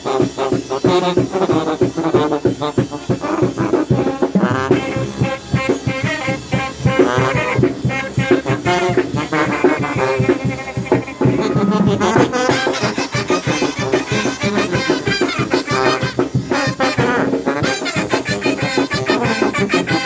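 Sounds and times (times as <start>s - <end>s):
brass band playing: 0.0s - 20.0s
steady drumbeat: 0.0s - 20.0s
trumpets: 0.0s - 20.0s
sousaphone bass: 0.7s - 17.3s.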